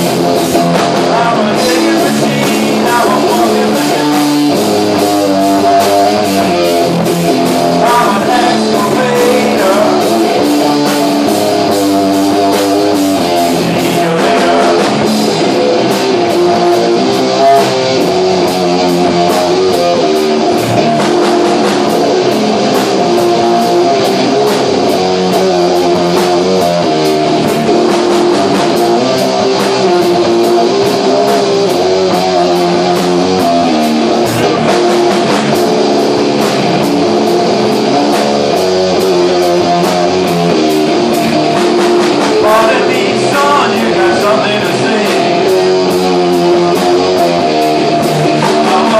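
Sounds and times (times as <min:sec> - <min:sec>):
drum and cymbal hits: 0:00.0 - 0:48.9
electric guitars: 0:00.0 - 0:48.9.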